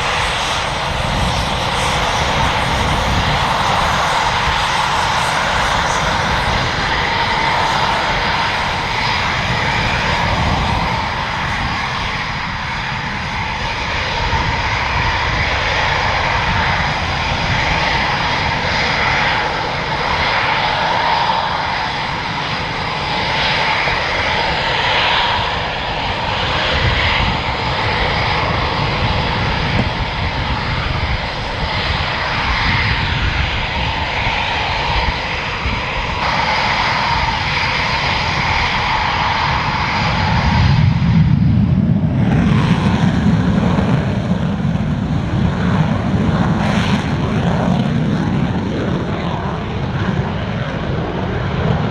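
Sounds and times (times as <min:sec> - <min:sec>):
jet engines running: 0:00.0 - 0:51.9.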